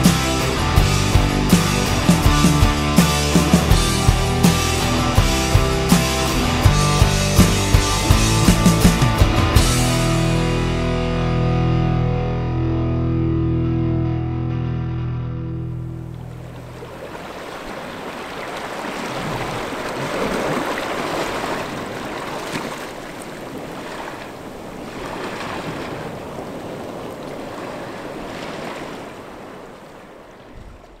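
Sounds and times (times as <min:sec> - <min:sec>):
waves breaking and washing in: 0:00.0 - 0:10.6, 0:15.8 - 0:31.0.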